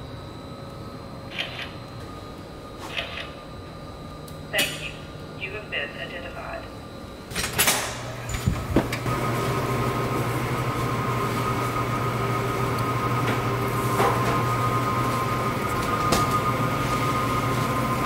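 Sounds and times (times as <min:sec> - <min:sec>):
ventilation fans humming: 0:00.0 - 0:18.0.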